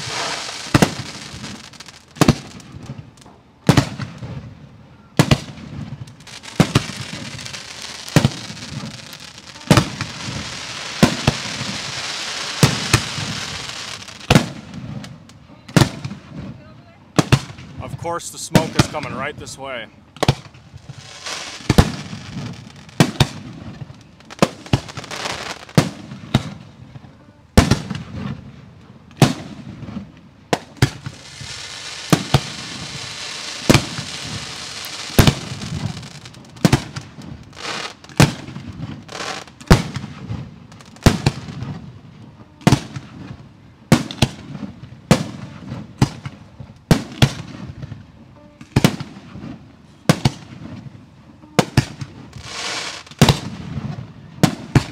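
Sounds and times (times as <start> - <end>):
crackling hiss of fireworks: 0.0 - 54.9
loud sharp firework bursts: 0.0 - 54.9.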